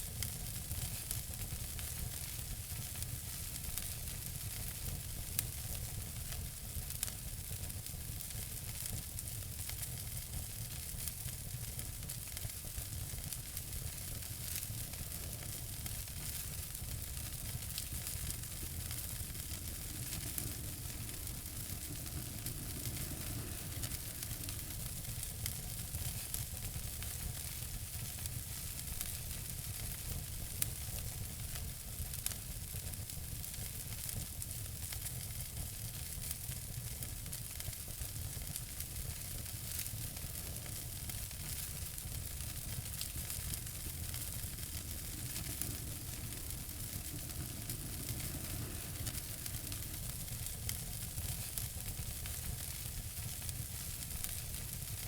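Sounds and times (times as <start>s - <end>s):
fire crackles and pops: 0.0s - 55.0s
fire hissing: 0.1s - 55.0s.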